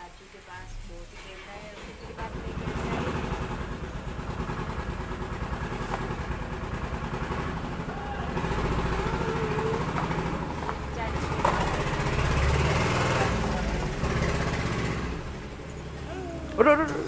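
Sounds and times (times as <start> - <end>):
engine idling: 2.0 - 17.0.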